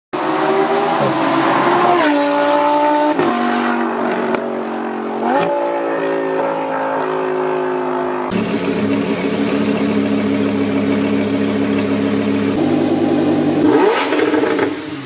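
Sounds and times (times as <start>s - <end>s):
sports car engine accelerating hard: 0.2s - 15.0s.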